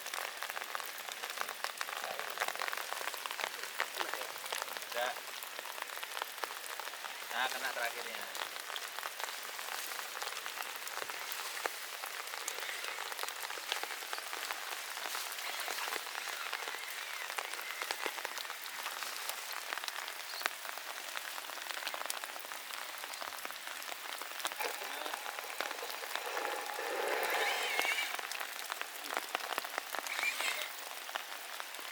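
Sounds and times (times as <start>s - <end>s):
rain falling: 0.0s - 31.9s
raindrops ticking on surfaces: 0.0s - 31.9s.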